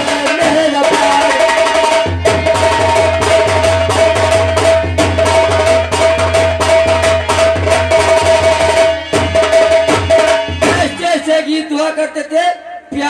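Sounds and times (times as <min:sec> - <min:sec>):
fast hand-drum strokes: 0:00.0 - 0:11.3.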